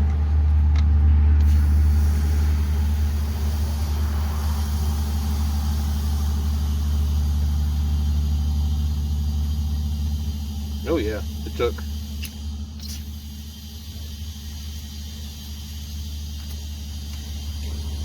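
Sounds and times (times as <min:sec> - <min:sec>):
air compressor humming: 0:00.0 - 0:18.0
air hissing into tire: 0:01.4 - 0:18.0.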